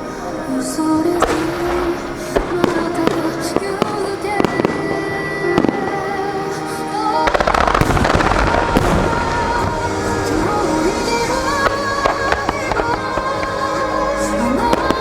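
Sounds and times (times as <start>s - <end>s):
fireworks bursting: 0.0s - 15.0s
show music: 0.0s - 15.0s.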